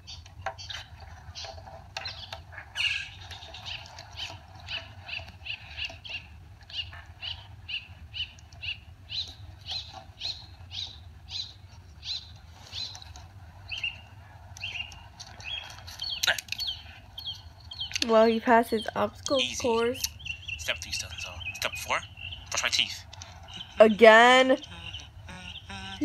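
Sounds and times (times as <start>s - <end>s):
bird chirping: 0.0s - 26.0s
steady low hum: 0.0s - 26.0s.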